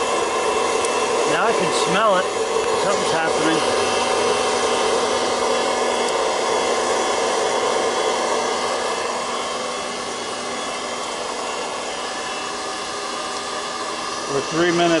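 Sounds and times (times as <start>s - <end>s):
popcorn popper fan whirring: 0.0s - 15.0s.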